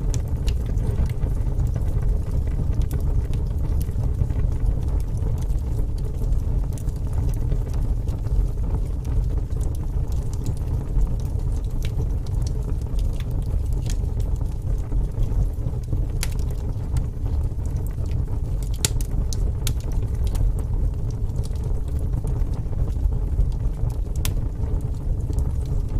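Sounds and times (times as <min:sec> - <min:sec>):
fire crackling and popping: 0:00.0 - 0:25.9
wood fire rumbling: 0:00.0 - 0:25.9.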